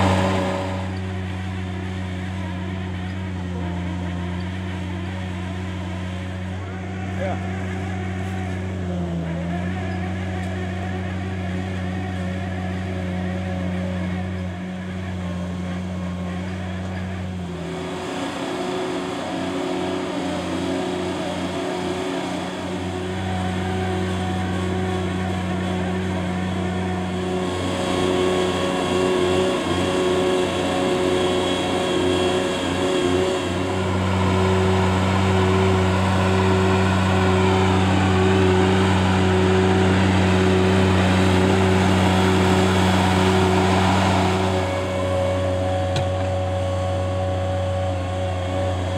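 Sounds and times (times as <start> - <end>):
loader engine running: 0.0 - 48.9.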